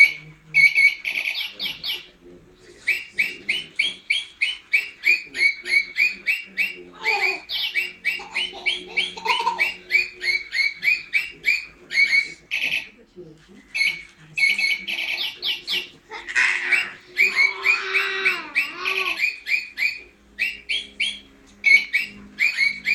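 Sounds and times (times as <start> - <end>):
pet bird calling: 0.0 - 2.1, 2.9 - 13.0, 13.8 - 22.9.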